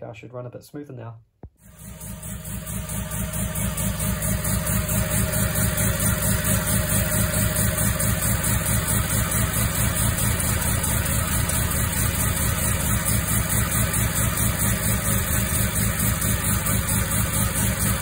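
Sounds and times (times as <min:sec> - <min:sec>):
rotary engine idling: 0:01.6 - 0:18.0.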